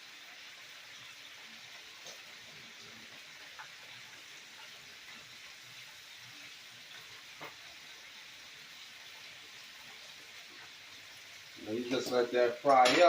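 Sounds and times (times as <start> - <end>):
chicken sizzling in hot grease: 0.0 - 13.0.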